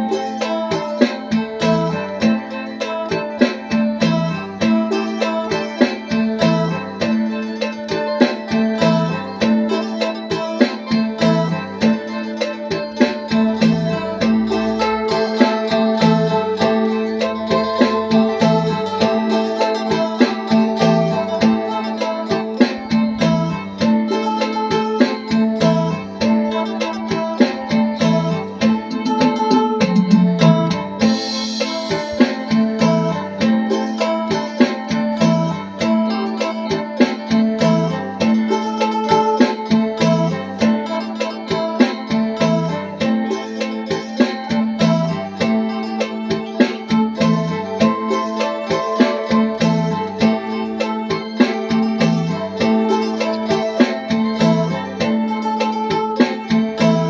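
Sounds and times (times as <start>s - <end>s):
plucked lute with drone: 0.0s - 57.0s.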